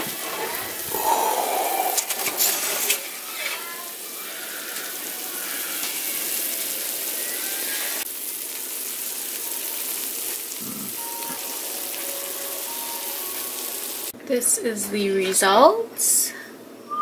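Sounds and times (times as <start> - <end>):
chicken wings sizzling on tray: 0.0 - 14.2.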